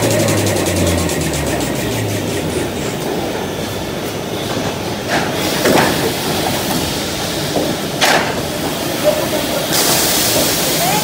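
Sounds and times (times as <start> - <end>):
machinery rumble and clatter: 0.0 - 11.0.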